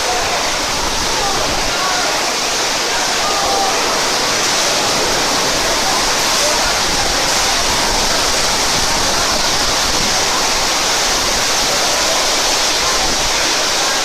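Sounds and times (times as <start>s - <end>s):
torrential rain and hail: 0.0s - 14.0s.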